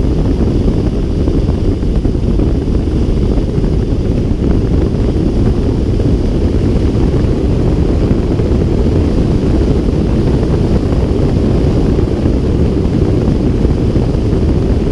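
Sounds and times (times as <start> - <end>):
glider airflow rushing: 0.0 - 14.9.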